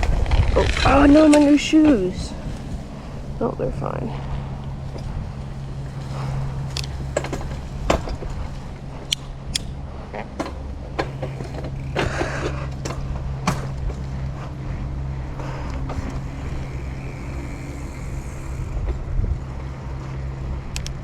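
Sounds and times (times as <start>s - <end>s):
bike rumbling over dirt: 0.0s - 21.0s
rattles and knocks over bumps: 0.0s - 21.0s.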